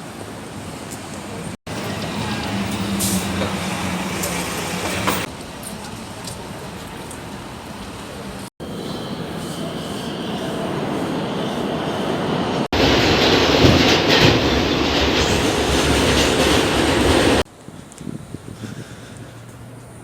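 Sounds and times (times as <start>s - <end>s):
subway train wheel and track noise: 0.0s - 20.0s.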